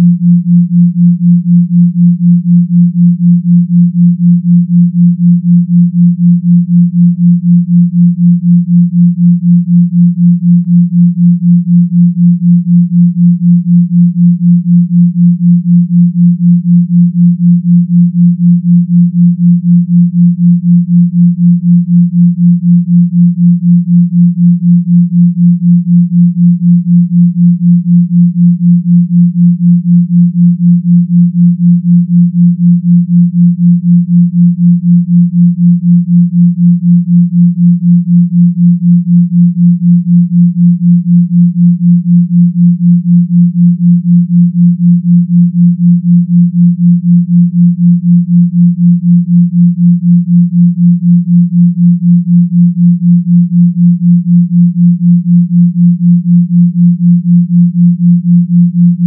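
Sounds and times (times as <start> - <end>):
pulsing sine tone: 0.0 - 59.0.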